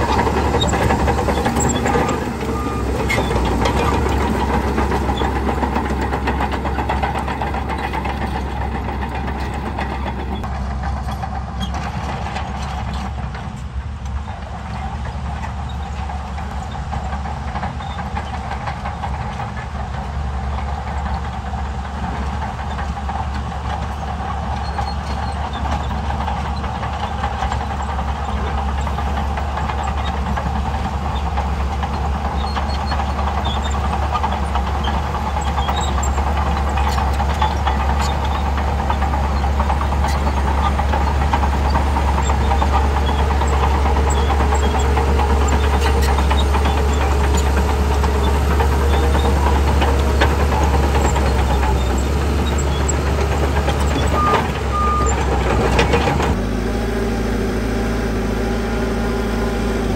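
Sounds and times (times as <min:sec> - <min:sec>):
heavy diesel engines running: 0:00.0 - 0:59.9.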